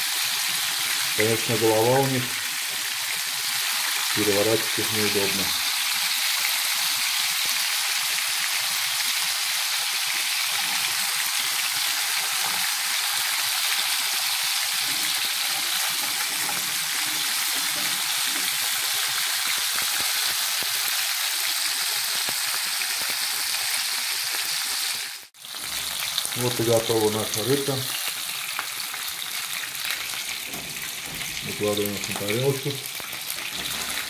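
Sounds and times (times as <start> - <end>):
fish frying in oil: 0.0 - 34.0.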